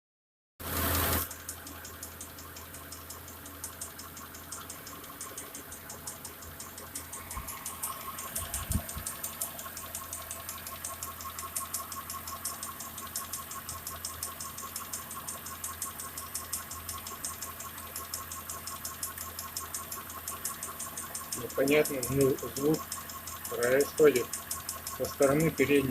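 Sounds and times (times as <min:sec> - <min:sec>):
car engine running: 0:00.6 - 0:25.9
rapid engine ticking: 0:00.6 - 0:25.9.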